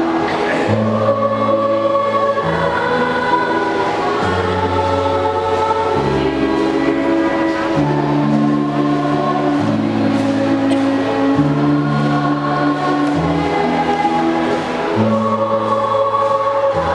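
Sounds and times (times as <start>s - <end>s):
choir singing in harmony: 0.0s - 16.9s.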